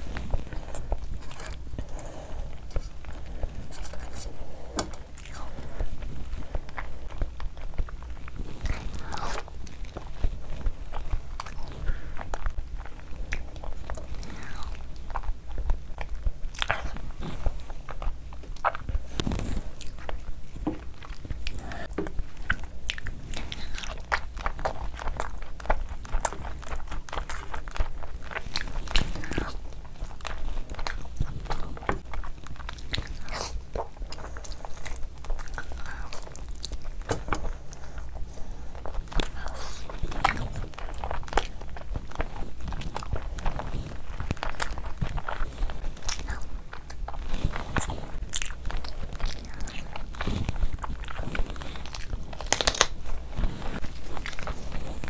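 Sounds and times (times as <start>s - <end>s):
person chewing: 0.0s - 55.0s.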